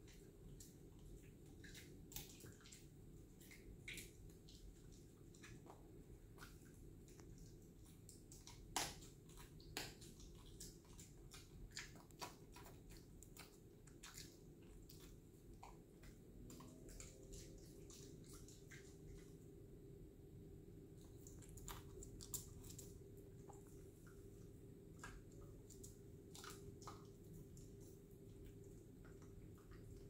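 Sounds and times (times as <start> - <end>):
dog eating wet smacks: 0.0 - 19.7, 20.8 - 30.0.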